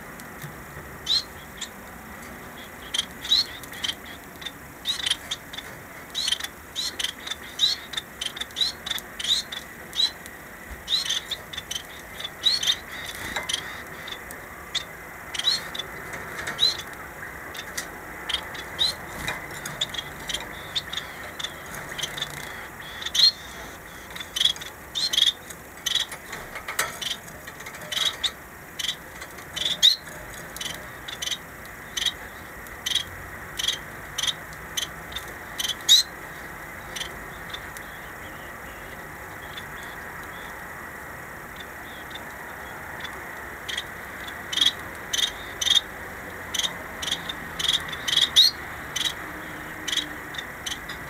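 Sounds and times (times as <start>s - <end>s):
finches chirping: 0.8s - 40.8s, 41.4s - 51.0s.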